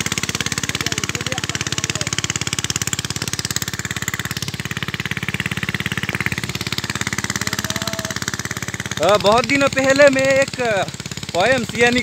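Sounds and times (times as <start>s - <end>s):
small engine chugging: 0.0s - 12.0s.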